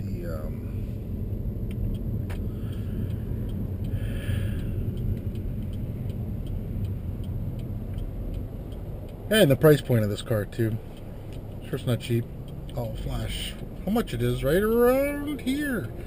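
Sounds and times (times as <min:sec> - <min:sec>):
car cabin road rumble: 0:00.0 - 0:16.0
faint ticking: 0:00.1 - 0:16.0.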